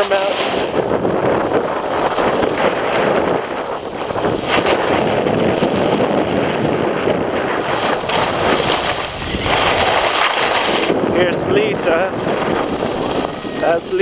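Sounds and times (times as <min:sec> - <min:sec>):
skis sliding over snow: 0:00.0 - 0:05.6, 0:06.4 - 0:14.0
wind buffeting microphone: 0:00.0 - 0:14.0.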